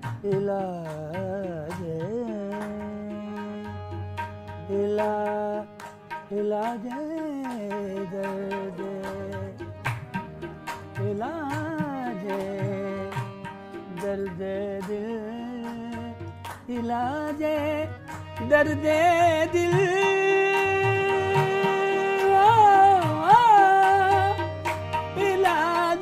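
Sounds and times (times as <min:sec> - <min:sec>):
harmonium melody: 0:00.0 - 0:26.0
person singing wordless phrases: 0:00.1 - 0:03.8, 0:04.6 - 0:09.7, 0:11.0 - 0:24.5, 0:25.1 - 0:26.0.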